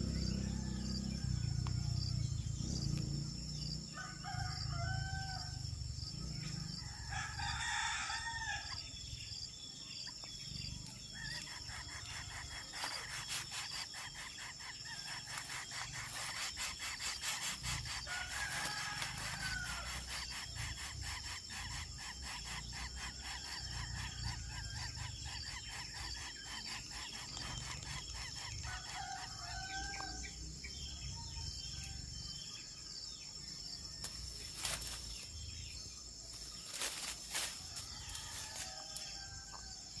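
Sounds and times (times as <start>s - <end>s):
high insect drone: 0.0s - 40.0s.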